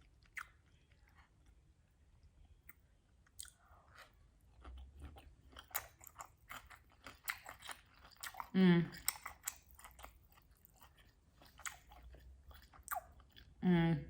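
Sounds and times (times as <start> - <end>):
person chewing food: 0.0 - 13.6.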